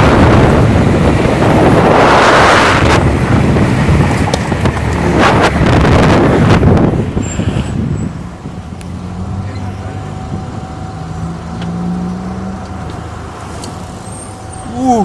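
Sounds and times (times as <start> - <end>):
vehicle engine running low: 0.0 - 15.0.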